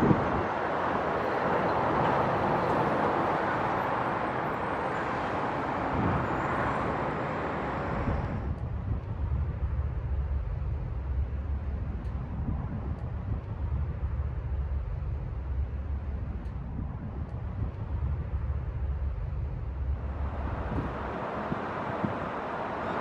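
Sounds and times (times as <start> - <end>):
truck engine and tyre roar: 0.0 - 23.0.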